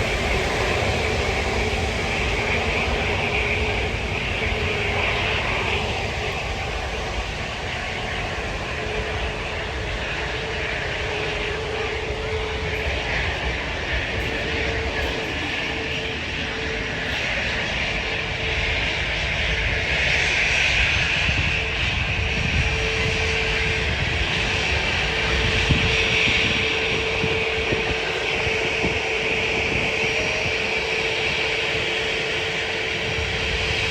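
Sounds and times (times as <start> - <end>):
faint steady whine: 0.0 - 33.9
jet engines rushing: 0.0 - 33.9.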